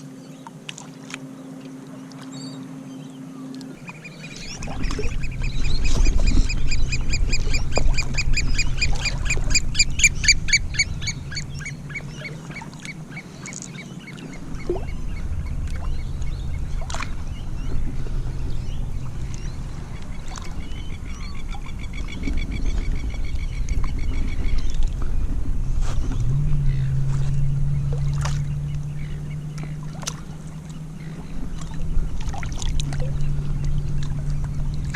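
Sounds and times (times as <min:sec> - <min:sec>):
low rumble: 0:03.8 - 0:34.9.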